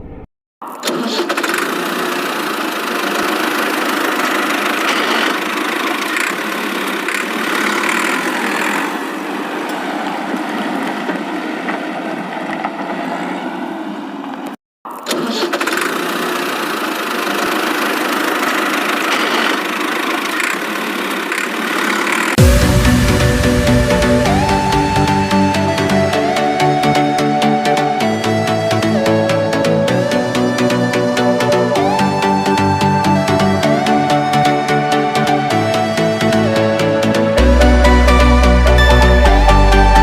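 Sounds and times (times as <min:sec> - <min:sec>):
engine running: 0:01.3 - 0:13.4, 0:16.0 - 0:40.0.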